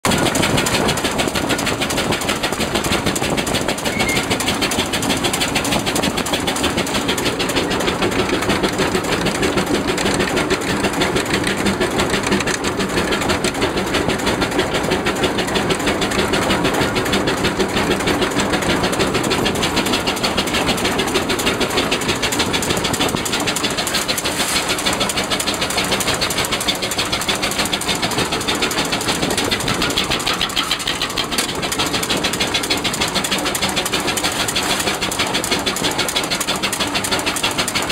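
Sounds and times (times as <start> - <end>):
steam traction engine beating: 0.0 - 37.9.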